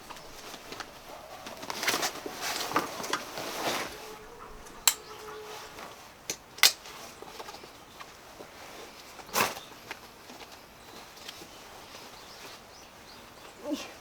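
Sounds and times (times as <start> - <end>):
rustling handling noise: 0.0 - 13.4.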